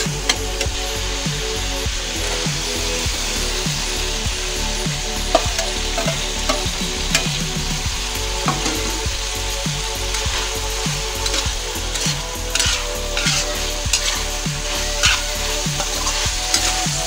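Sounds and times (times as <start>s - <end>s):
meat sizzling in oil: 0.0s - 17.0s
metal spatula scraping wok: 2.0s - 17.0s.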